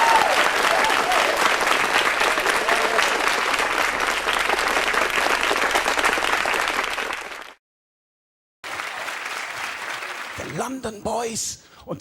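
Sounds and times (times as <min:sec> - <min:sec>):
audience applauding: 0:00.0 - 0:07.6, 0:08.6 - 0:10.8.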